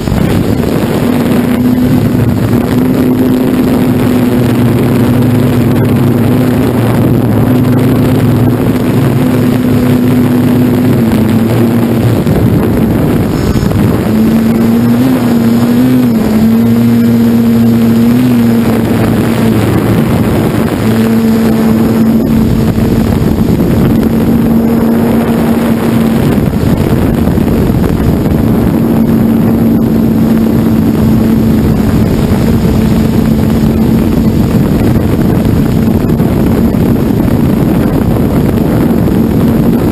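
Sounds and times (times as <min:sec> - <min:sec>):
drone motors buzzing: 0:00.0 - 0:37.0.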